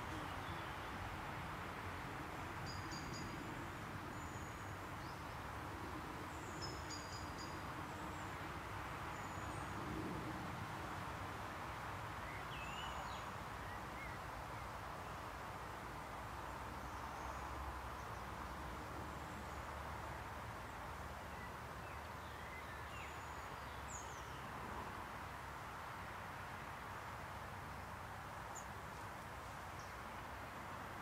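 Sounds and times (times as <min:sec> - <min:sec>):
background hiss: 0:00.0 - 0:31.0.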